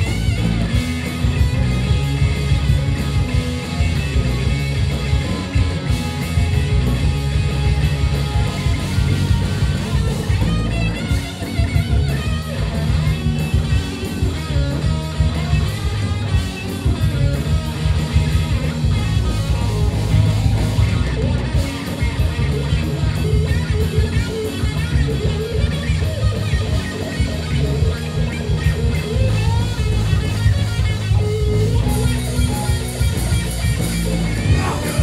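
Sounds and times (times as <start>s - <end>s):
rock band playing loud: 0.0s - 35.0s.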